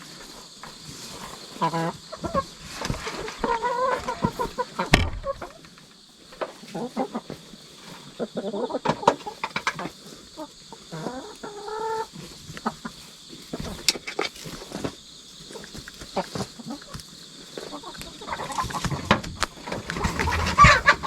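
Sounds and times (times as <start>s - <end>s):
chickens clucking: 0.1s - 21.0s.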